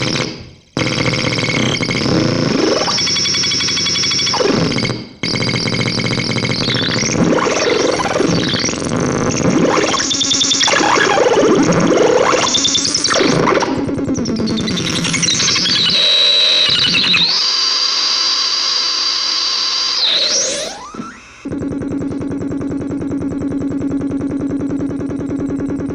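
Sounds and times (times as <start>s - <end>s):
noise oscillator squealing: 0.0s - 25.9s.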